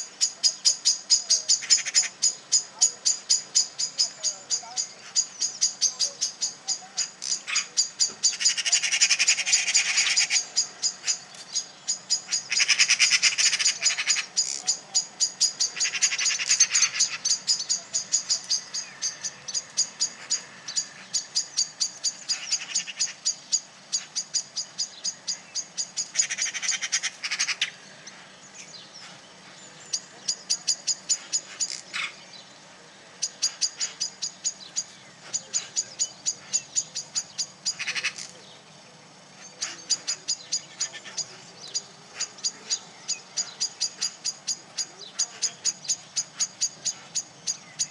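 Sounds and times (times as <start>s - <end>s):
harsh rattling scold calls: 0.0s - 47.9s
small birds alarm chips: 0.0s - 47.9s.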